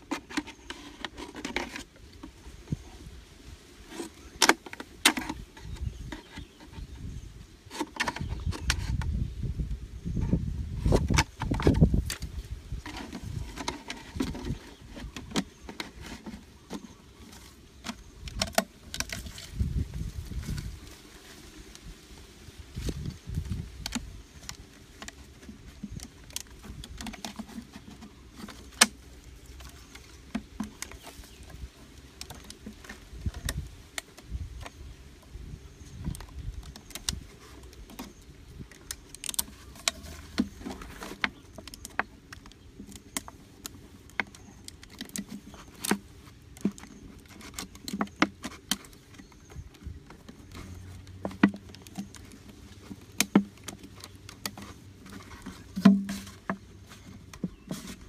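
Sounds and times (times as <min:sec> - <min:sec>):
plastic clicks and crackles: 0:03.9 - 0:06.8, 0:07.7 - 0:09.1, 0:10.9 - 0:19.6, 0:23.4 - 0:58.0.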